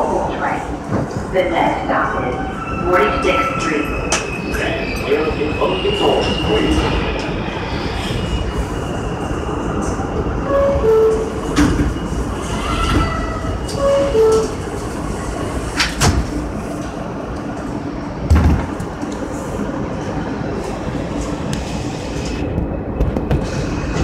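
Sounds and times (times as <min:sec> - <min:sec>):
subway train equipment rumble: 0:00.0 - 0:24.0.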